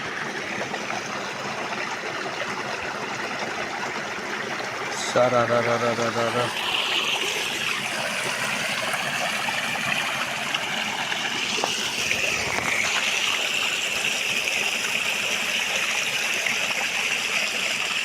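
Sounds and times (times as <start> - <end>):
water rushing in channel: 0.0 - 18.0.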